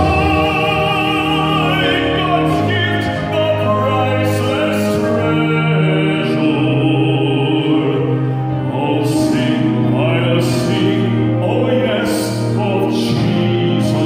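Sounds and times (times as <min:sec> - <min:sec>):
men singing in harmony: 0:00.0 - 0:14.0.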